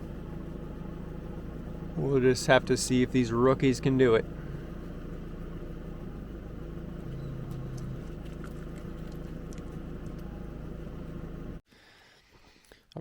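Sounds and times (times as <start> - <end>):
truck engine droning: 0.0 - 11.6.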